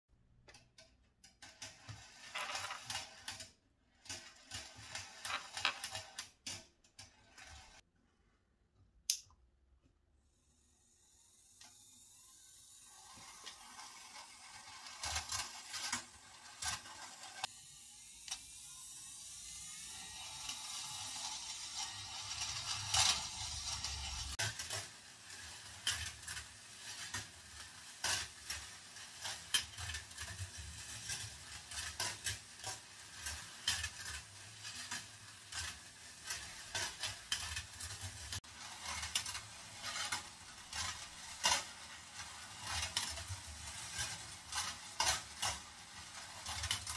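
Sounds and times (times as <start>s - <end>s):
metal balls rolling on wire tracks: 0.5s - 7.8s, 11.0s - 46.9s.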